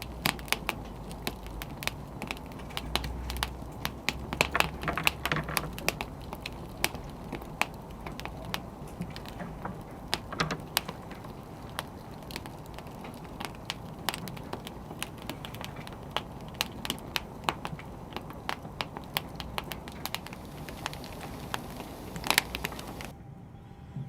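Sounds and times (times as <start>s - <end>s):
wood fire crackling and popping: 0.0s - 23.1s
soft steady hiss: 0.0s - 23.2s.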